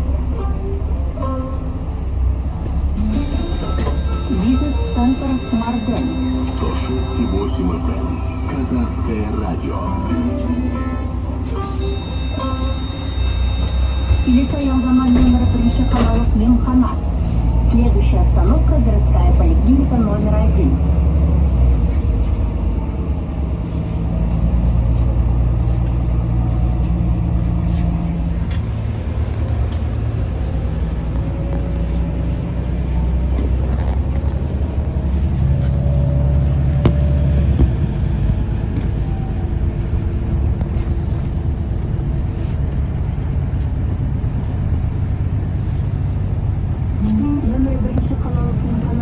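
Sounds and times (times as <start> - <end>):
bus engine drone: 0.0 - 49.0
road noise: 0.0 - 49.0.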